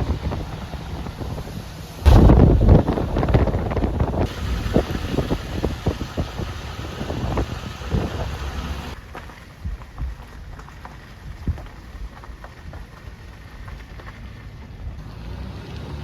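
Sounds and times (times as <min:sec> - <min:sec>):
wind rumbling on microphone: 0:00.0 - 0:15.0
rain falling: 0:00.0 - 0:16.0.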